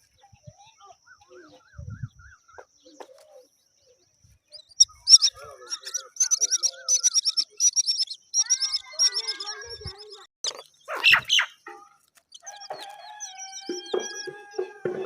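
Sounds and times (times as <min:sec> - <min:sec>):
baby bird chirping: 0:00.1 - 0:15.0.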